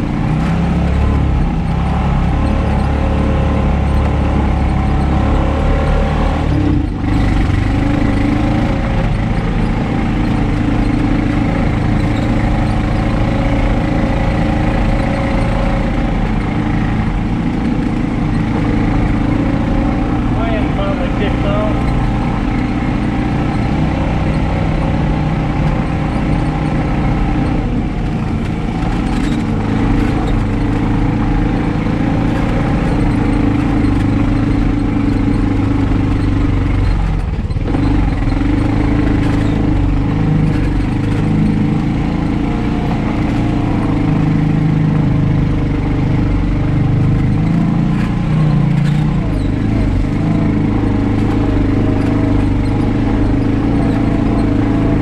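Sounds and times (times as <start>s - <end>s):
single-cylinder engine running: 0.0s - 55.0s.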